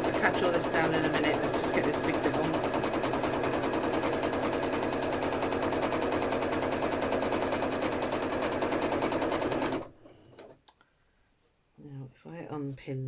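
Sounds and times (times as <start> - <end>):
sewing machine stitching: 0.0 - 10.6.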